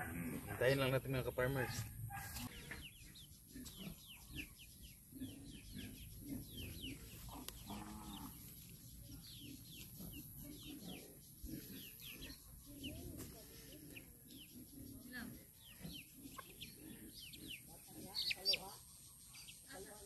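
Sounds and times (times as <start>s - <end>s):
birds chirping: 0.0s - 20.0s
chickens clucking: 0.0s - 20.0s.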